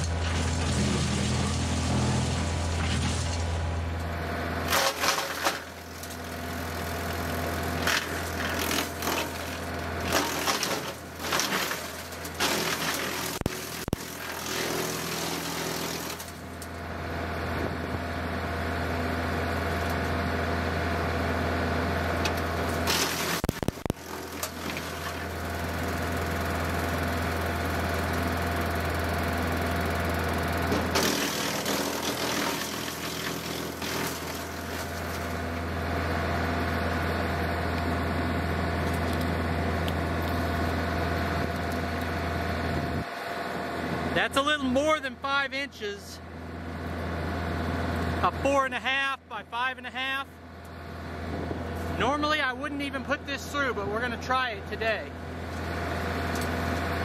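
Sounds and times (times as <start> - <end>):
limbs crunching through wood chipper: 0.0 - 17.0, 19.4 - 45.7, 54.6 - 57.0
tractor diesel engine running: 0.0 - 57.0.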